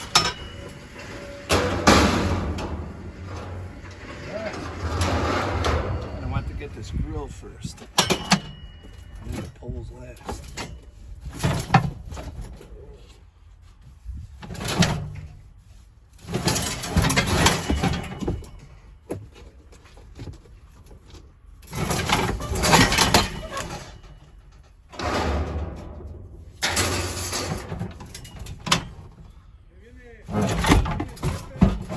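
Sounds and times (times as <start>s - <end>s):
scrap metal scraping and clattering: 0.0s - 12.7s, 14.1s - 19.0s, 21.0s - 29.6s, 30.2s - 31.9s.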